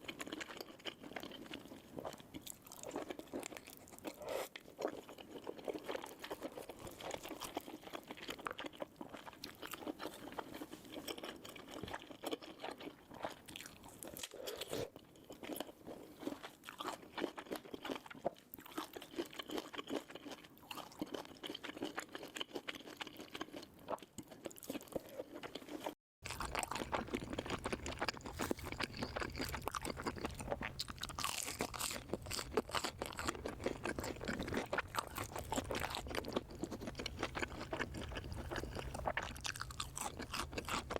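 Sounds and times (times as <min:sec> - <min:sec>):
crunchy chewing: 0:00.1 - 0:40.9.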